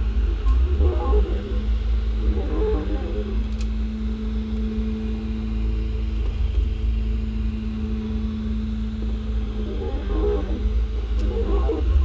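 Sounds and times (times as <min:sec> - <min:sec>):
low rumble: 0:00.0 - 0:12.0
stepper motors humming: 0:00.0 - 0:12.0.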